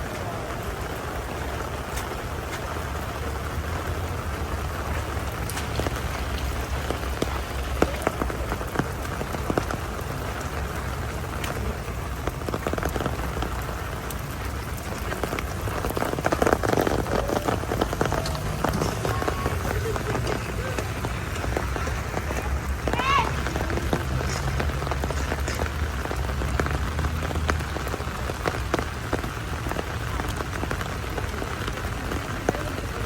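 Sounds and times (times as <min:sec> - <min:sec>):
heavy rain on hard surfaces: 0:00.0 - 0:33.0.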